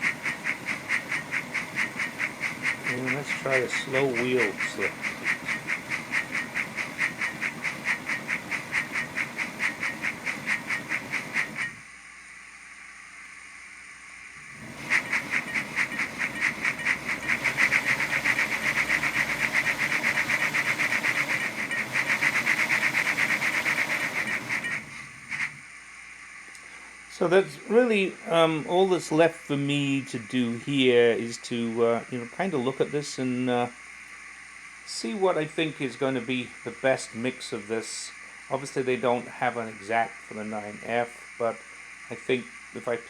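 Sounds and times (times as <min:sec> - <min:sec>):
steam locomotive chuffing: 0:00.0 - 0:11.9, 0:14.4 - 0:25.9, 0:26.8 - 0:43.0
faint hiss: 0:00.0 - 0:43.0.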